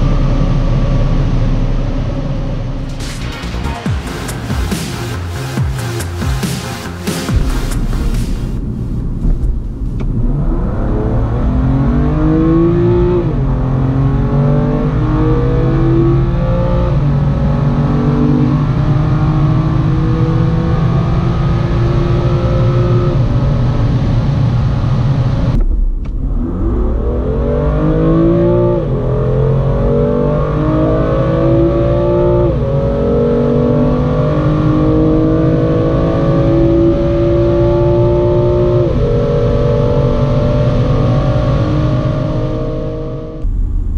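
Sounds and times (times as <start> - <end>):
car engine revving at full throttle: 0.0 - 43.9.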